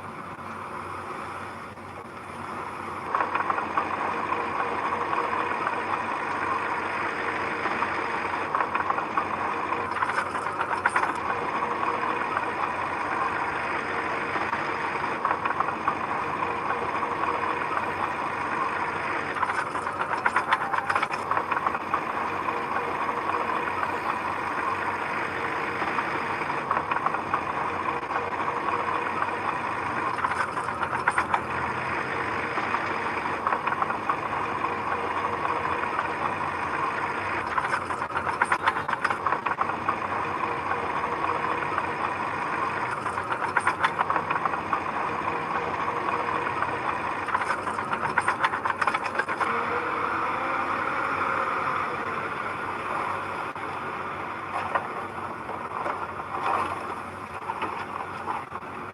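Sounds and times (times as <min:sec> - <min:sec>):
heavy machinery engine running: 0:00.0 - 0:58.9
machinery clatter: 0:01.7 - 0:58.9.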